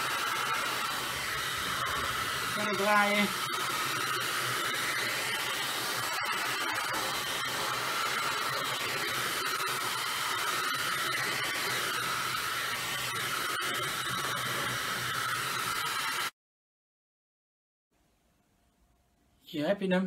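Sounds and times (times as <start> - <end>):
heat gun blowing air: 0.0 - 16.3.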